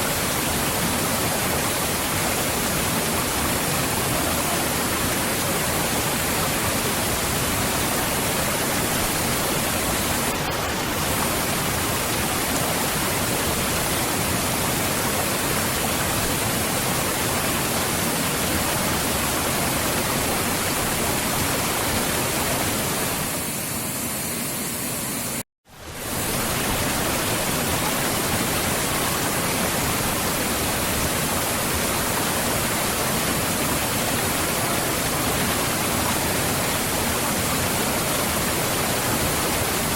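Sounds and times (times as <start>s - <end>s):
waterfall rushing: 0.0s - 23.8s, 25.8s - 39.9s.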